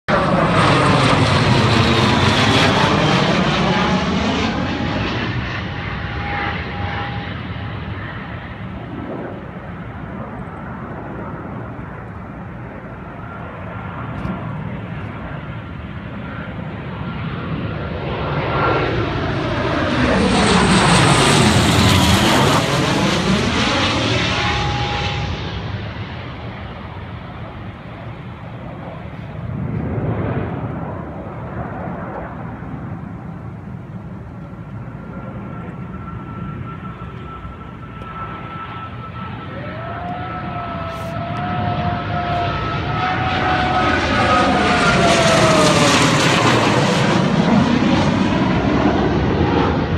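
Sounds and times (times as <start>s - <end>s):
jets passing low overhead: 0.1s - 49.9s.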